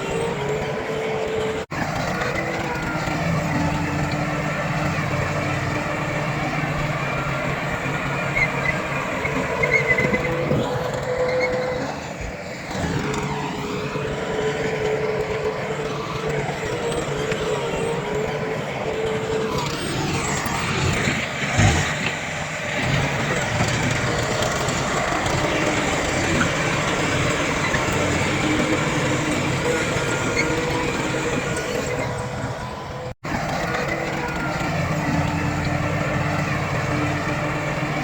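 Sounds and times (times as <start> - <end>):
heavy diesel machinery running: 0.0 - 38.0.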